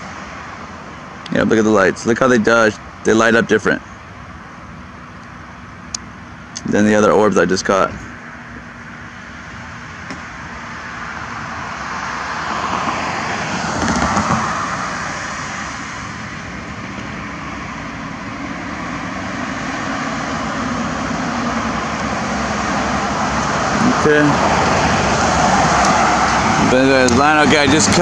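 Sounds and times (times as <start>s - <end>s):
vehicle rushing drone: 0.0s - 28.0s.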